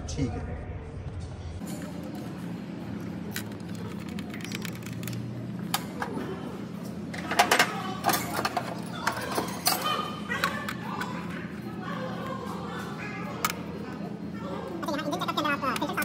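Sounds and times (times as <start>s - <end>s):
low workshop hum: 0.0s - 16.0s.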